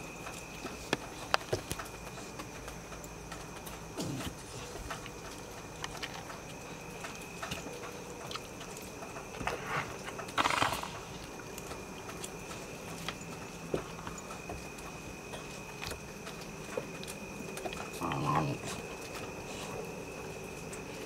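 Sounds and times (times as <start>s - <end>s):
puppies' paws tapping and clicking: 0.0s - 21.0s.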